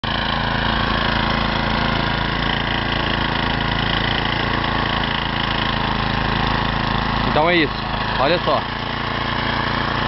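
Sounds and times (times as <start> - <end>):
snowblower engine running: 0.0 - 10.0.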